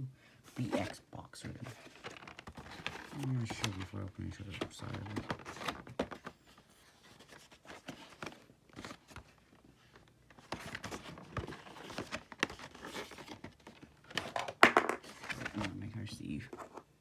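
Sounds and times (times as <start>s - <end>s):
cardboard box rustling: 0.6s - 15.8s.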